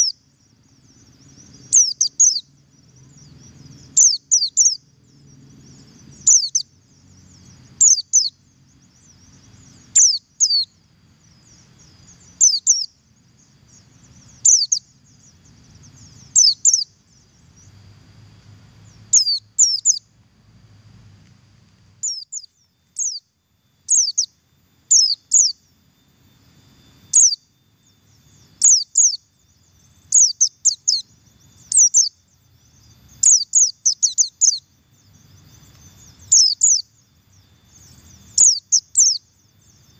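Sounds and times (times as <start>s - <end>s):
bird chirping: 0.0s - 20.2s, 21.6s - 39.9s.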